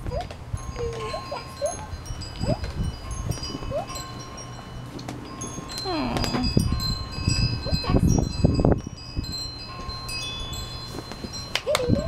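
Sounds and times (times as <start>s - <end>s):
wind chimes ringing: 0.4s - 12.0s.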